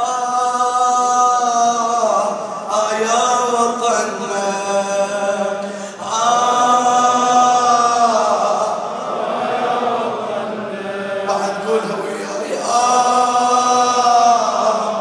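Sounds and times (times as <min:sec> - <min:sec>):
man chanting over loudspeakers: 0:00.0 - 0:15.0.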